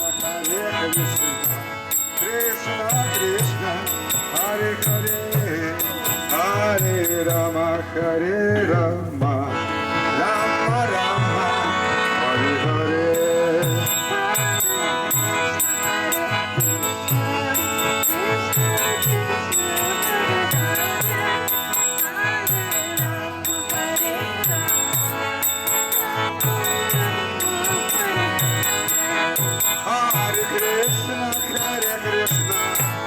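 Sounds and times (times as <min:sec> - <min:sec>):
harmonium chords: 0:00.0 - 0:33.0.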